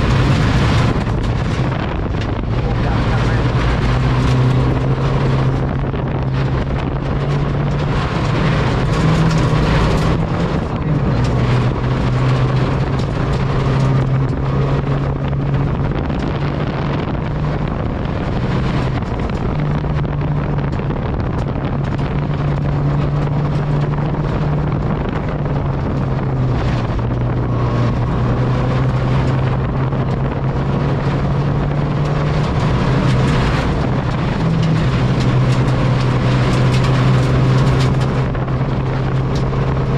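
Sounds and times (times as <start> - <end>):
car engine running hard: 0.0 - 39.9
gravel and tyre noise: 0.0 - 39.9.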